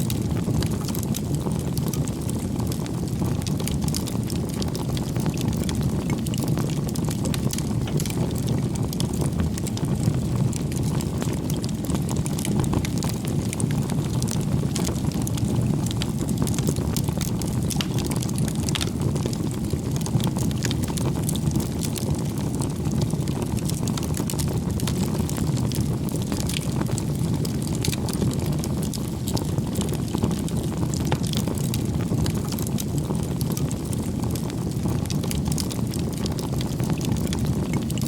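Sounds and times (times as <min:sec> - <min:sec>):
campfire flames rushing: 0:00.0 - 0:38.0
firewood crackling and popping: 0:00.0 - 0:38.0.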